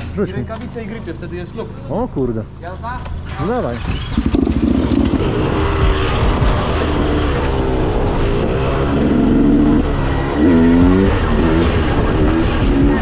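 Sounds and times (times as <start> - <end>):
motorcycle engine revving: 0.5 - 13.0.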